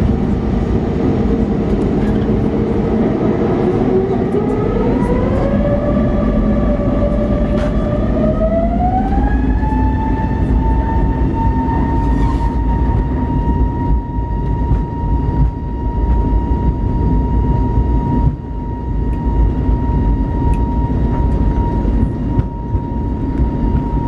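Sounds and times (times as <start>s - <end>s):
jet engine whine rising: 0.0s - 24.0s.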